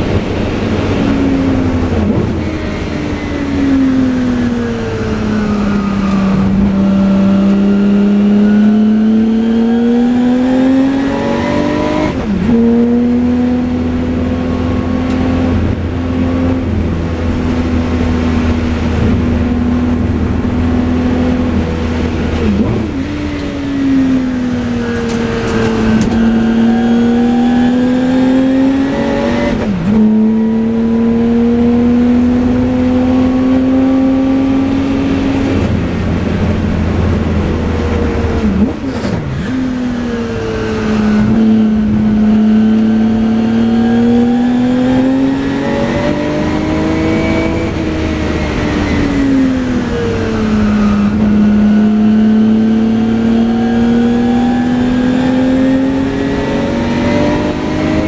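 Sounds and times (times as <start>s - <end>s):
racing engine at speed: 0.0s - 58.0s.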